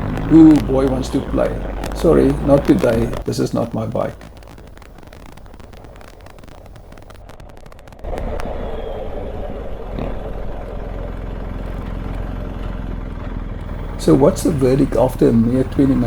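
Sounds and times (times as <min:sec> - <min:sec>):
motorcycle engine: 0:00.0 - 0:07.2, 0:08.1 - 0:16.0
road noise: 0:00.0 - 0:07.3, 0:08.0 - 0:16.0.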